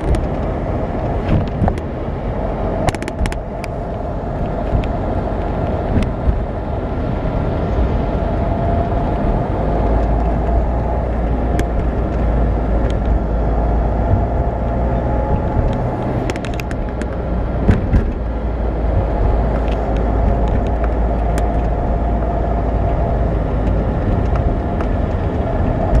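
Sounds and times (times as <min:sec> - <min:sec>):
car cabin road noise: 0:00.0 - 0:26.0.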